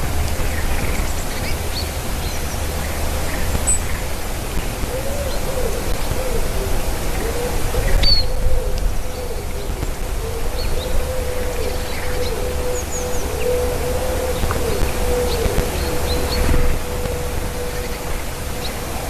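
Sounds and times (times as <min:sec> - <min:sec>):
low wind rumble: 0:00.0 - 0:19.0
soft low bird cooing: 0:00.0 - 0:19.0.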